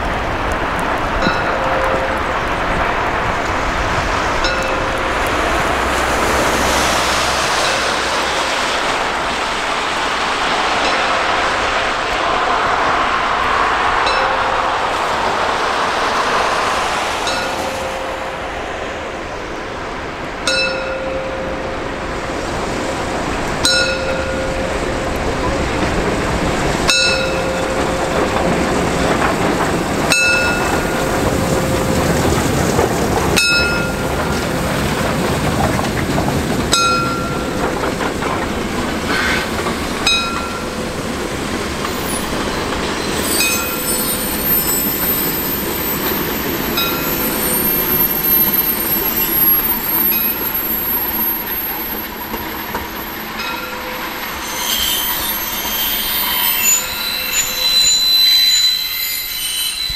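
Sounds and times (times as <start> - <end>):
steam locomotive passing: 0.0 - 59.9.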